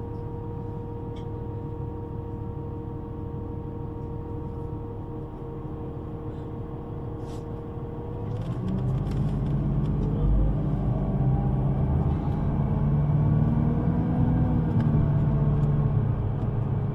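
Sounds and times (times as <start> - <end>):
bus engine rumble: 0.0 - 16.9.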